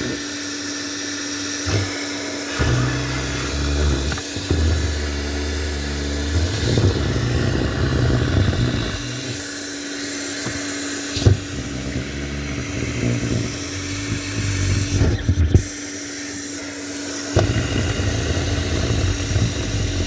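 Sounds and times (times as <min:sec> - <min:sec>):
handheld vacuum cleaner whine: 0:00.0 - 0:20.0.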